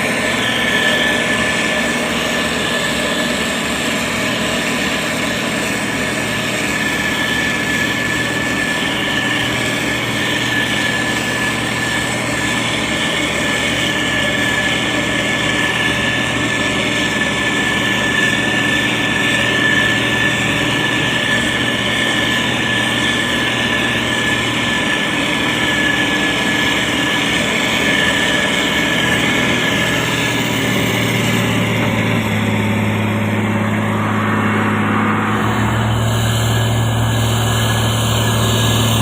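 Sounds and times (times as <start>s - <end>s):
diesel engine running under load: 0.0s - 39.0s
thin high whine: 0.0s - 39.0s.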